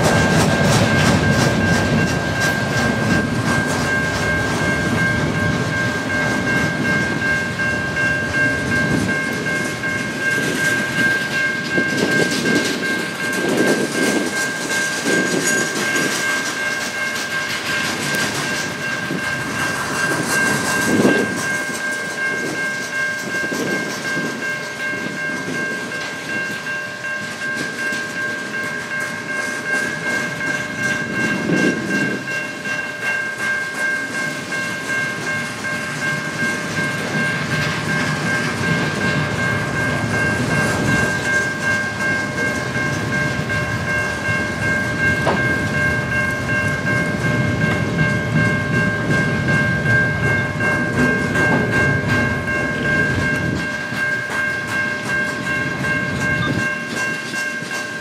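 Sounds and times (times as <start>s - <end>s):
high-pitched ringing tone: 0.0s - 58.0s
train wheels clacking over rails: 0.0s - 58.0s.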